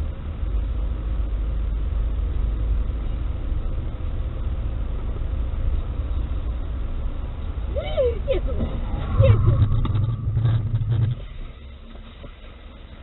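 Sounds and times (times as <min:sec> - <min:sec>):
moving car road and engine rumble: 0:00.0 - 0:13.0.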